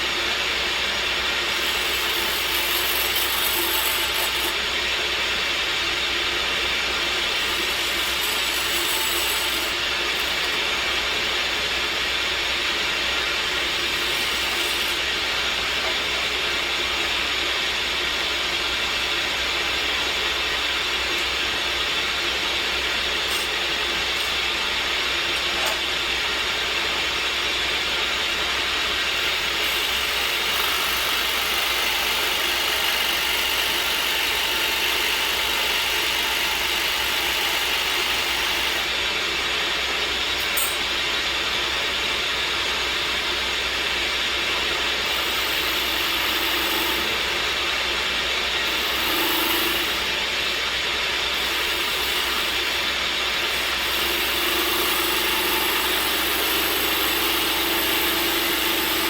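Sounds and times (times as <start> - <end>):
woodworking machine running: 0.0 - 59.0.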